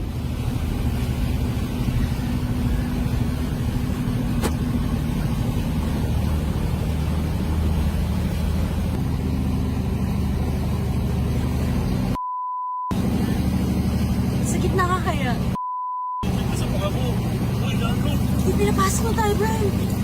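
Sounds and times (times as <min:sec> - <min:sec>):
vehicle engine humming: 0:00.0 - 0:12.2, 0:12.9 - 0:15.6, 0:16.2 - 0:20.0.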